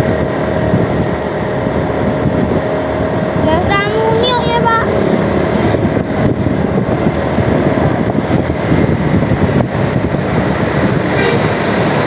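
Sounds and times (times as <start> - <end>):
road traffic passing: 0.0 - 12.0
wind buffeting microphone: 0.0 - 12.0.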